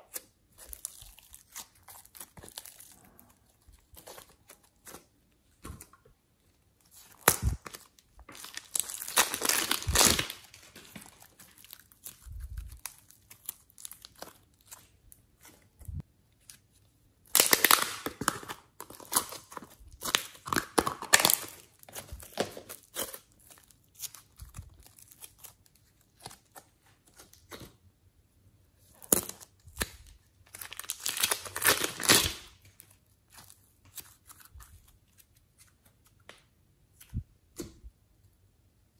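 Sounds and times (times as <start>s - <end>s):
slime crackling and tearing: 0.0s - 5.1s, 6.8s - 16.6s, 17.2s - 27.6s, 28.9s - 35.4s
slime squishing: 0.0s - 27.8s, 28.8s - 36.3s.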